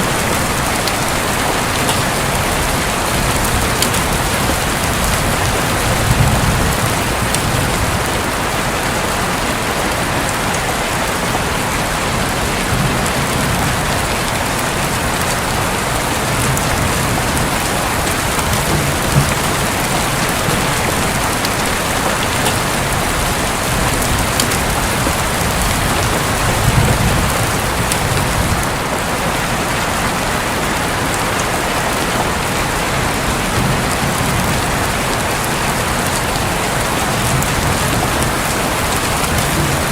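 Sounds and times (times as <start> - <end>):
low thunder rumbles: 0.0 - 9.2, 11.9 - 29.0, 32.7 - 39.9
rain pattering on a roof: 0.0 - 39.9.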